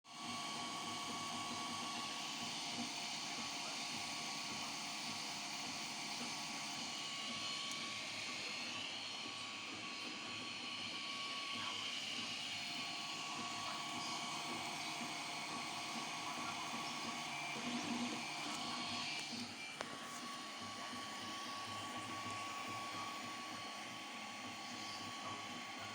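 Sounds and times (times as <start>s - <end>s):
three-d printer whirring: 0.1s - 25.9s
wavering printer whine: 0.1s - 25.9s.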